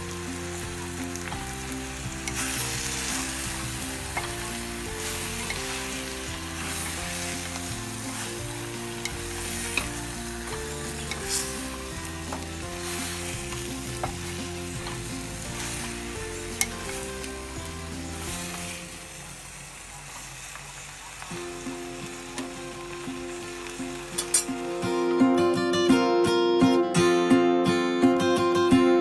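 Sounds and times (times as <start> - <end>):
curry sizzling in a clay pot: 0.0 - 25.5
soft background music: 0.0 - 29.0.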